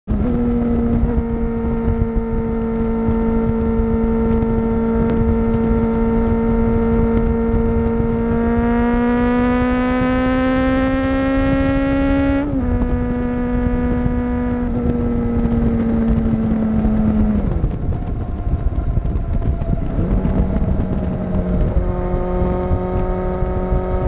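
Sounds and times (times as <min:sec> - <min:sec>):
motorcycle engine droning: 0:00.1 - 0:24.0
wind rumble on microphone: 0:00.1 - 0:24.0.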